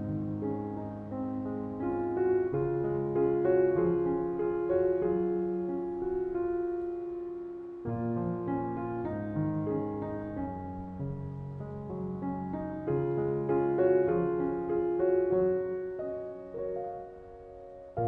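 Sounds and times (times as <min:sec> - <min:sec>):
soft slow piano music: 0:00.0 - 0:18.0.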